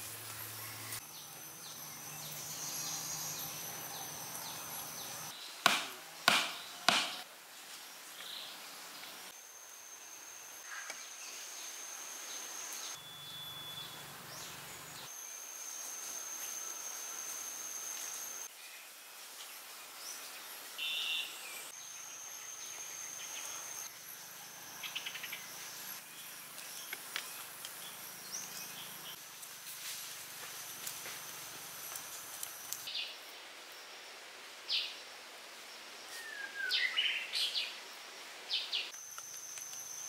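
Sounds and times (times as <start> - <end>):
outdoor background noise: 0.0 - 40.0.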